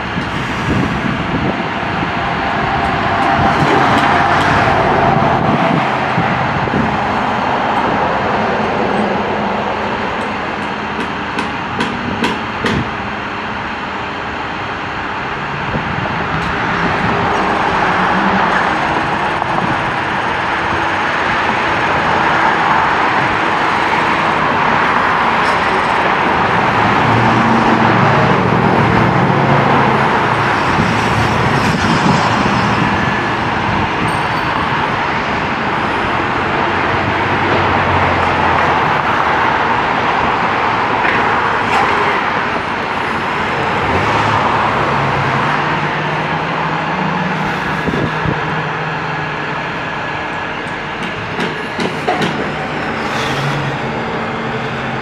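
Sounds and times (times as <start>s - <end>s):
diesel truck engines running: 0.0s - 55.0s.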